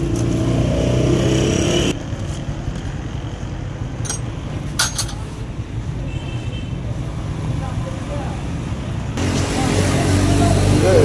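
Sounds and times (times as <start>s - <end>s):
low rumble of vehicle noise: 0.0s - 11.0s.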